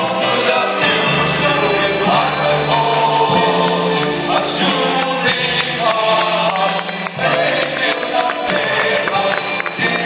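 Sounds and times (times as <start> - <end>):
male choir singing: 0.0 - 10.0.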